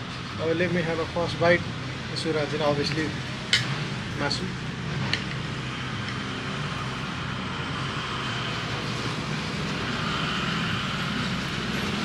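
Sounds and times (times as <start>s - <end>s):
vehicle rumble and hiss: 0.0s - 12.0s.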